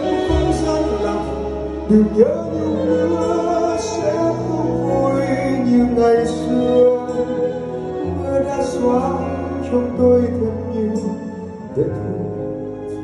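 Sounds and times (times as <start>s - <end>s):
man singing a ballad: 0.0s - 12.8s
live band playing: 0.0s - 13.0s.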